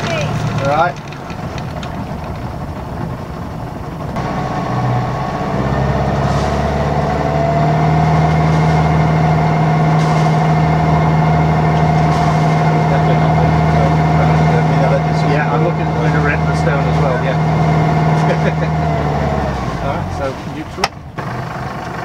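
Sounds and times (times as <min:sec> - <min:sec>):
diesel boat engine running: 0:00.0 - 0:22.0.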